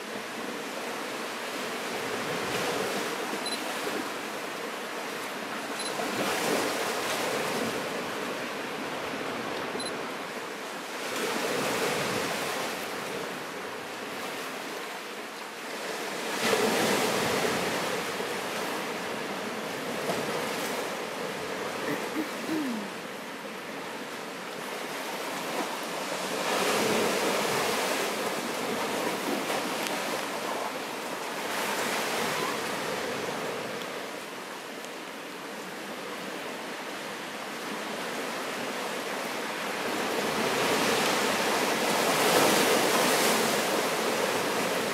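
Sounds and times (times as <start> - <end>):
small waves breaking on beach: 0.0 - 44.9.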